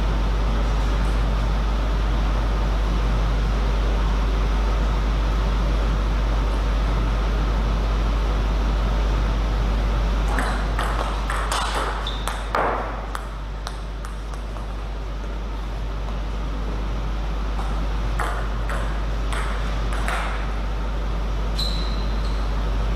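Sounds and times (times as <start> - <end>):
hall hum: 0.0 - 22.9.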